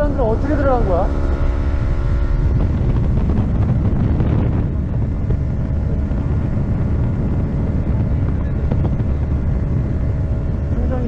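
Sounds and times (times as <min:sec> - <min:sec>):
boat motor running: 0:00.0 - 0:11.0
wind on microphone: 0:00.0 - 0:11.0.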